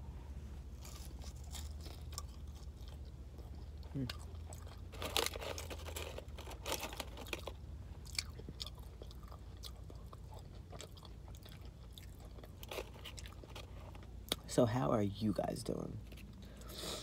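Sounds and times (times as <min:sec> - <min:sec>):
steady low hum: 0:00.0 - 0:17.0
chewing crunchy fries: 0:00.6 - 0:15.3, 0:16.0 - 0:17.0.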